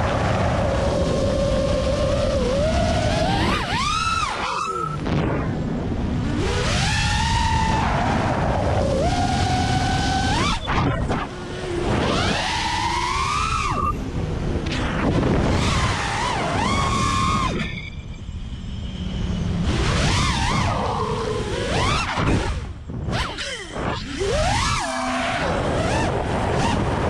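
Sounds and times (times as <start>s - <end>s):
drone motors whining: 0.0s - 27.0s
wind rushing: 0.0s - 27.0s.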